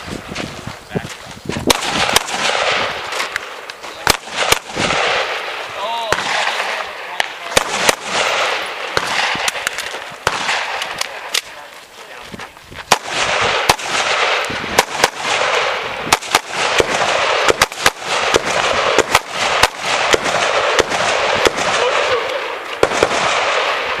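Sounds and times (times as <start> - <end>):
rifle shots: 1.6 - 11.7, 12.9 - 24.0.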